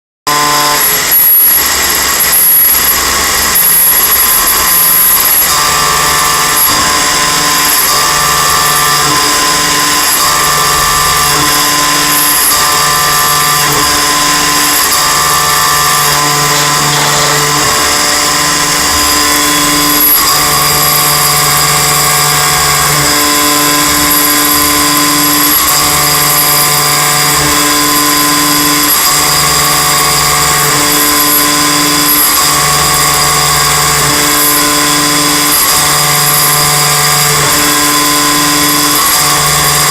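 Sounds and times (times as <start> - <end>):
milling machine cutting steel: 0.3 - 39.9.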